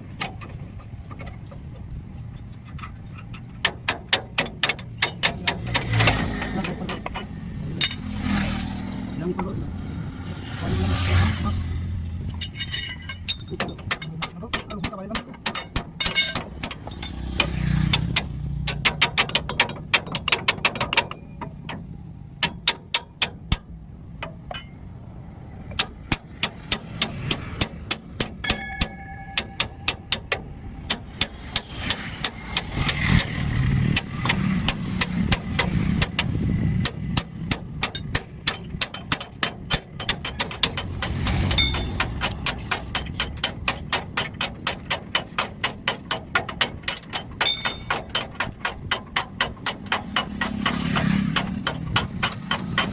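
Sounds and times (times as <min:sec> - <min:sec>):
hammer striking steel spring: 0:03.3 - 0:08.8, 0:12.2 - 0:24.9, 0:25.7 - 0:52.9.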